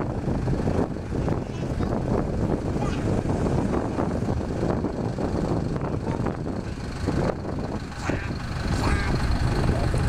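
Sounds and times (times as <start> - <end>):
vehicle engines rumbling: 0.0 - 10.0
wind buffeting microphone: 0.0 - 10.0.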